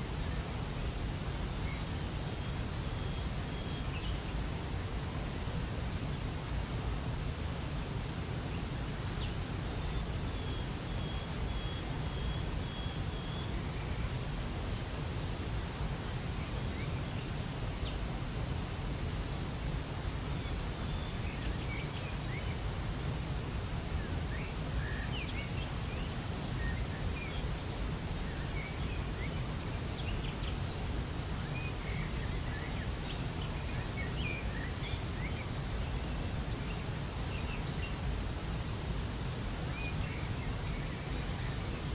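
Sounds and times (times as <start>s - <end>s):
waterfall rushing water: 0.1s - 41.9s
small birds chirping: 8.0s - 41.9s.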